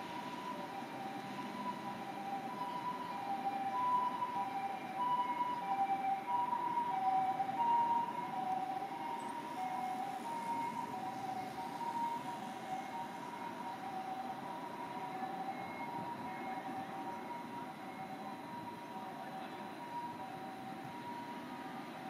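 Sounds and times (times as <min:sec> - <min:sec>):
two-tone ambulance siren: 0:00.0 - 0:22.0.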